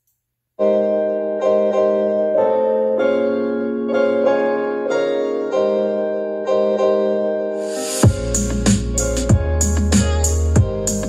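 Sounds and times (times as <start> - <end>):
keyboard melody of ringing notes: 0.6 - 11.0.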